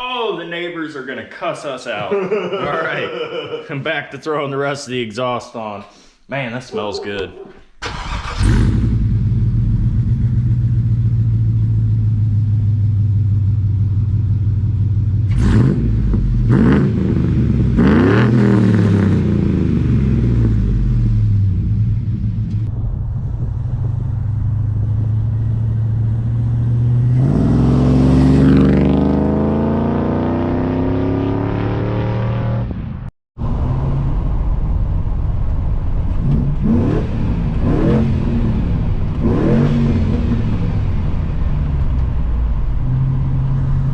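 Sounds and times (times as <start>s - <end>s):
truck engine idling and revving: 7.8s - 43.9s.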